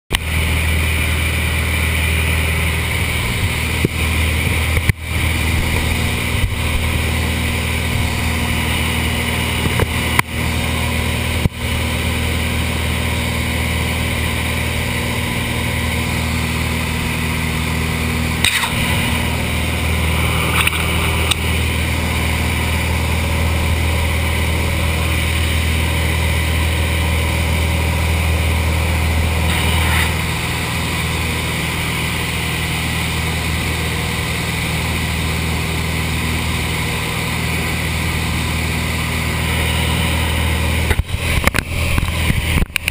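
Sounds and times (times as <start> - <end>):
propeller plane engine droning: 0.1 - 42.9.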